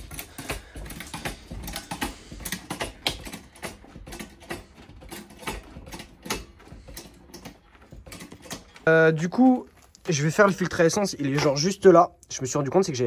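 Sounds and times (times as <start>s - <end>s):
tools and car parts clinking: 0.0s - 11.7s.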